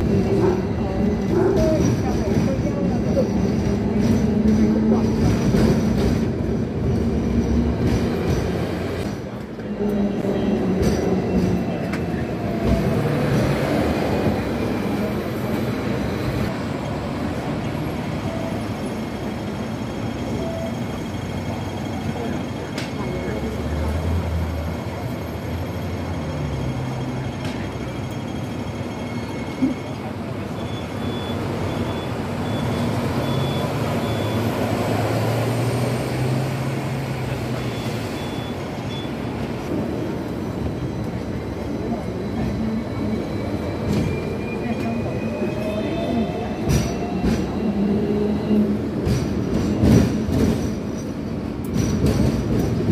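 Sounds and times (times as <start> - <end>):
road noise: 0.0 - 52.9
tram wheels rumbling on rails: 0.0 - 52.9.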